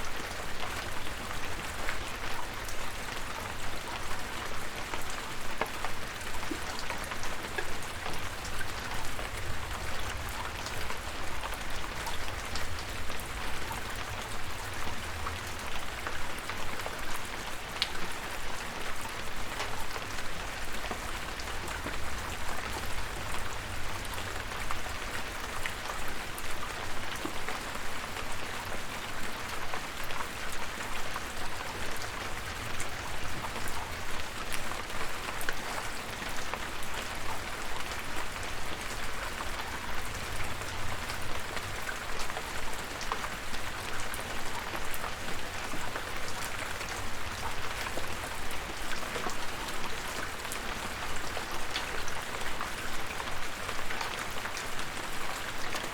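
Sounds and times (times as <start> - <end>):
raindrops pattering: 0.0 - 55.9.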